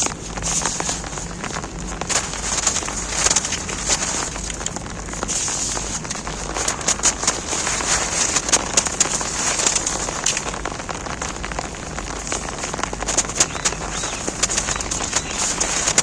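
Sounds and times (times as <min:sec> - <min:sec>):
rain on an umbrella: 0:00.0 - 0:16.0
snow crunching: 0:00.0 - 0:16.0.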